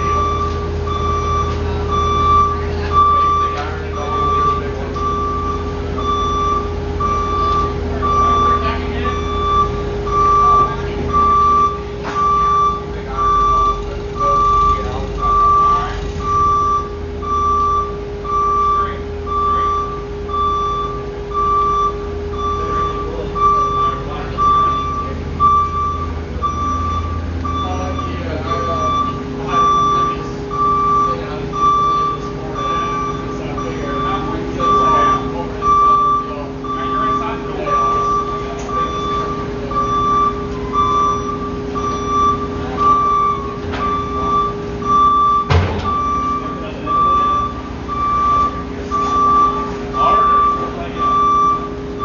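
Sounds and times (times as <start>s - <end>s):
engine humming: 0.0s - 52.0s
reversing alarm beeping: 0.0s - 52.0s.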